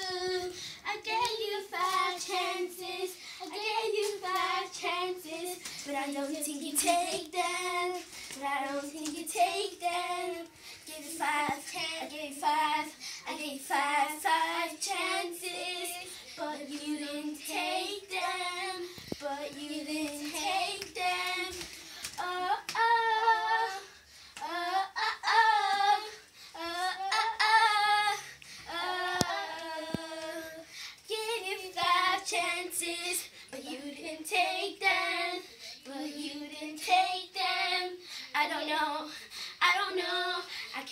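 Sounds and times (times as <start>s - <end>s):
girl singing unaccompanied: 0.0s - 40.9s.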